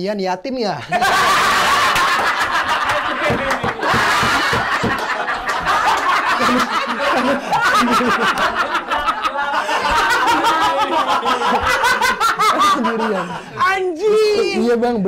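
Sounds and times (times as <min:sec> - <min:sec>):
men laughing loudly: 0:00.8 - 0:14.6.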